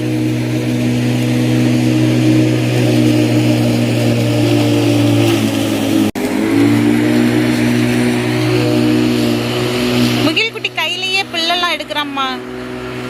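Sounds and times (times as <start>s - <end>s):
lawn mower running: 0.0s - 13.0s.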